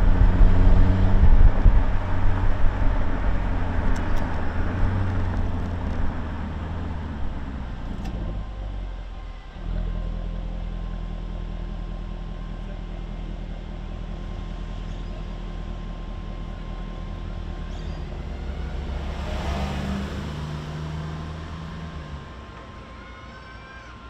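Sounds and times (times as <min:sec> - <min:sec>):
bus passing: 0:00.0 - 0:10.6, 0:12.6 - 0:24.0
car engine idling: 0:00.0 - 0:19.5.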